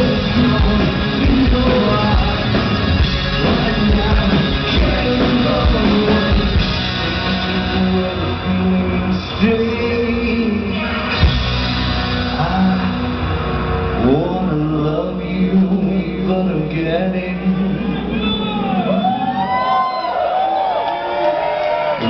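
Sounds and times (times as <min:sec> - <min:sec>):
rock band playing: 0:00.0 - 0:20.2.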